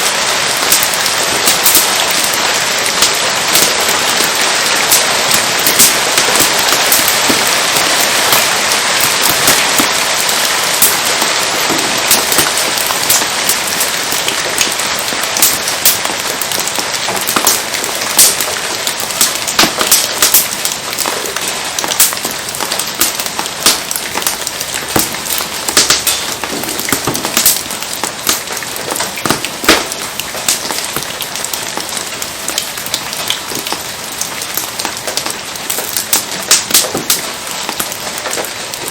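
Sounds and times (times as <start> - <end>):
rain hissing: 0.0 - 38.9
wood fire crackling and popping: 0.0 - 38.9.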